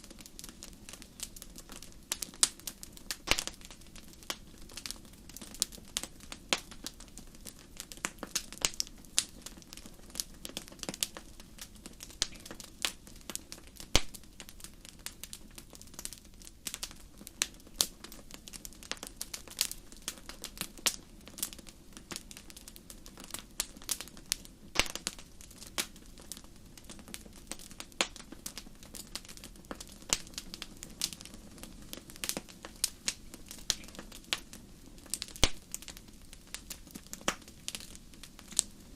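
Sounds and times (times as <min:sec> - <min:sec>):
campfire crackling: 0:00.0 - 0:38.9
low hiss of flames: 0:00.0 - 0:38.9.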